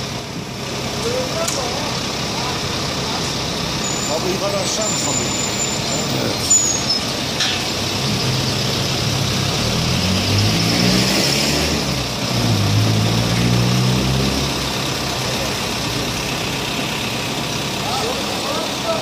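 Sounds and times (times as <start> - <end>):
diesel engine speeding up: 0.0 - 19.0.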